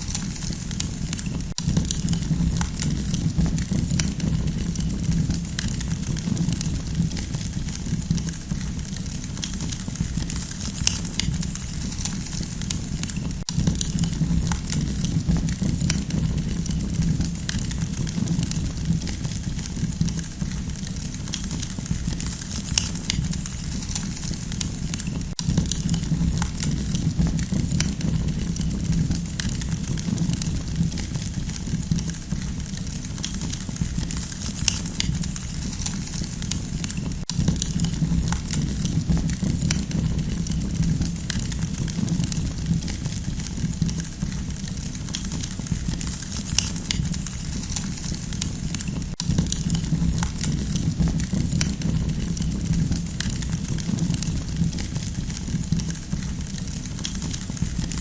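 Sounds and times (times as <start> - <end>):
campfire crackling and popping: 0.0 - 58.0
low fire rumble: 0.0 - 58.0.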